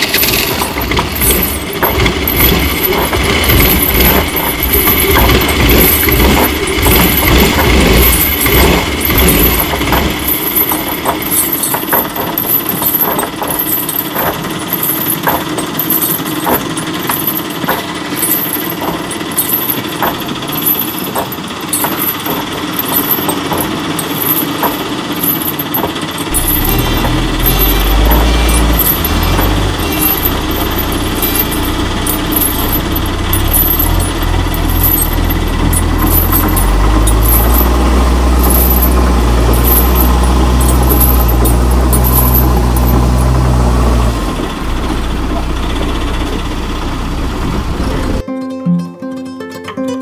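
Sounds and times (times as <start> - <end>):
engine clattering with ticks: 0.0 - 48.2
steady buzz: 0.0 - 48.2.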